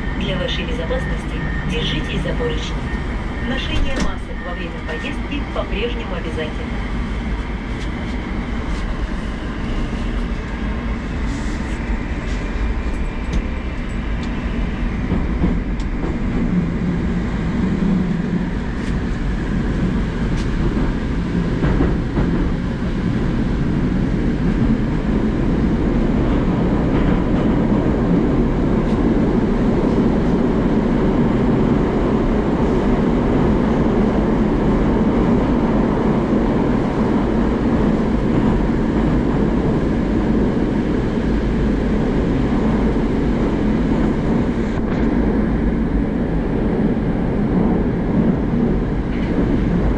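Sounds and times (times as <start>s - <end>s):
train wheels rumbling in tunnel: 0.0s - 49.9s.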